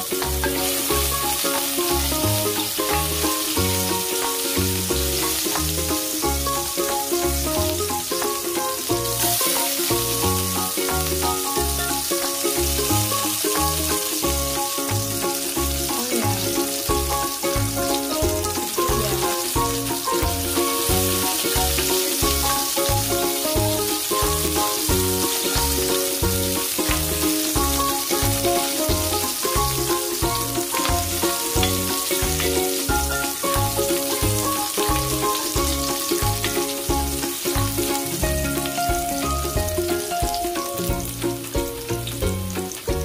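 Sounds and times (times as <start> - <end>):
background music with beat: 0.0 - 43.0
onion sizzling in hot oil: 0.0 - 43.0.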